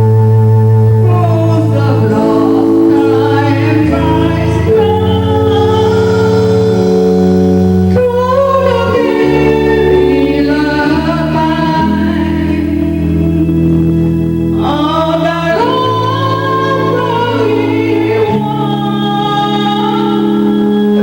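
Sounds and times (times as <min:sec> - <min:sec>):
sung anthem recording: 0:00.0 - 0:21.0.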